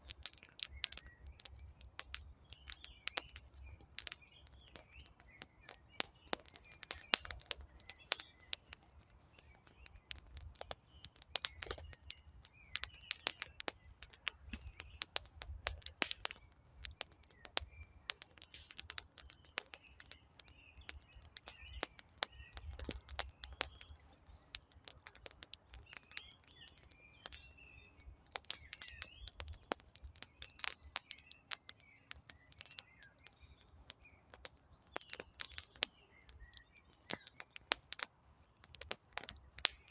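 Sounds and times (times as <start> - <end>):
campfire crackling and popping: 0.0 - 39.9
small birds chirping: 0.0 - 39.9.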